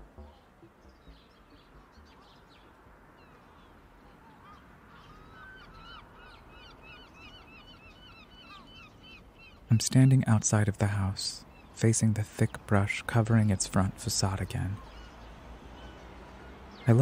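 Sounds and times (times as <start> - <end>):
flock of birds calling: 0.0 - 17.0
low steady hiss: 0.0 - 17.0.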